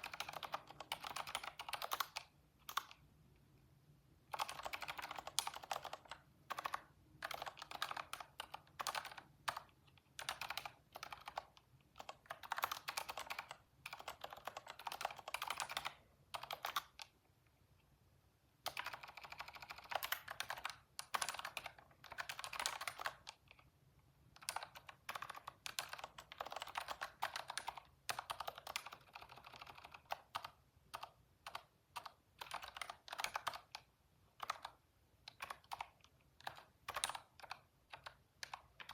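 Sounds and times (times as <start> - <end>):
typing on computer keyboard: 0.0 - 3.0, 4.3 - 17.2, 18.6 - 23.7, 24.3 - 38.9.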